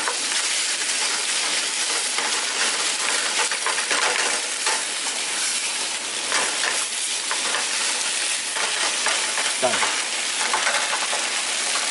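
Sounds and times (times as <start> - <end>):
rice sizzling in a pan: 0.0 - 11.9.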